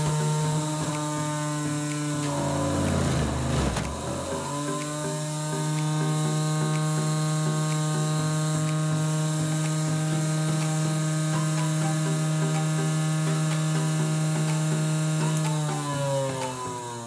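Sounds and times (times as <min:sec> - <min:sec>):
faint regular ticking: 0:00.0 - 0:16.6
juicer motor humming: 0:00.0 - 0:17.0.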